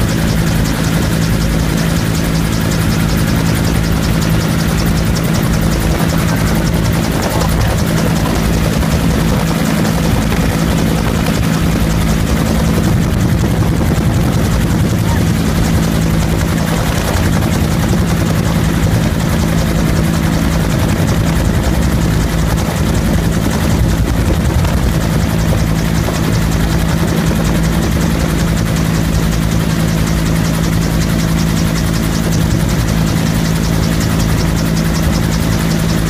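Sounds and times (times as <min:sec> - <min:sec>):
helicopter drone in flight: 0:00.0 - 0:36.0.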